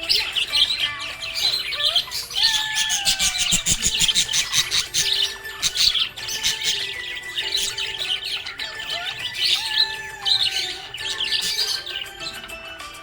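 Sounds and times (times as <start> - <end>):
background music with held notes: 0.0 - 13.0
parrots chirping and squawking: 0.0 - 13.0.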